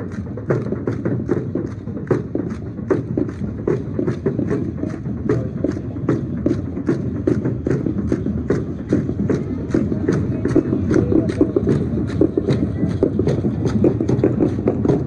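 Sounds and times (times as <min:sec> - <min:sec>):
rattles keeping the beat: 0:00.0 - 0:15.0
stamping dance steps: 0:00.0 - 0:15.0.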